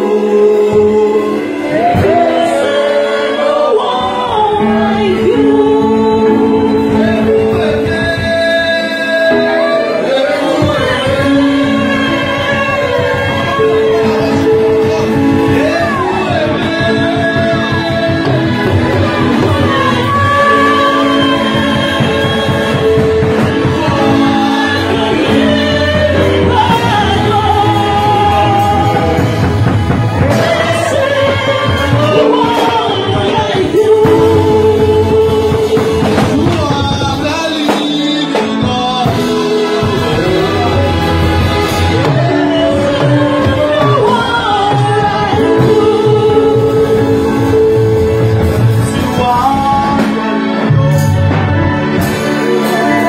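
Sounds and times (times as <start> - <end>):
drum kit and hand drum beat: 0.0 - 53.0
electronic keyboard chords: 0.0 - 53.0
person singing: 0.0 - 53.0.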